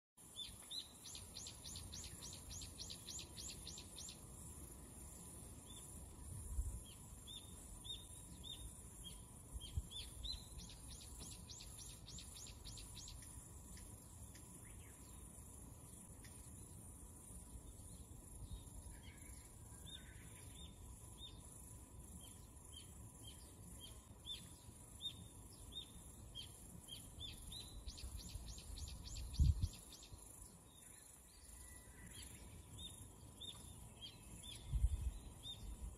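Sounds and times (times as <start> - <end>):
birds singing: 0.2 - 35.9.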